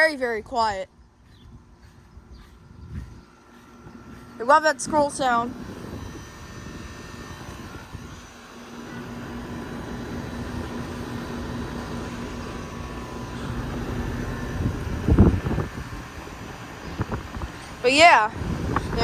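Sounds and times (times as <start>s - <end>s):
air conditioner compressor humming: 0.0s - 19.0s
condenser fan rushing: 0.0s - 19.0s.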